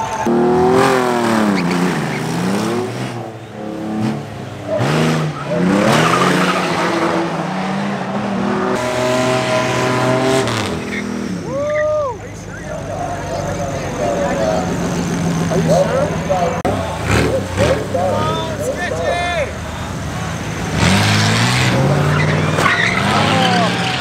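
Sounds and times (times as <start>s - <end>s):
drag racing car engines revving: 0.0s - 24.0s.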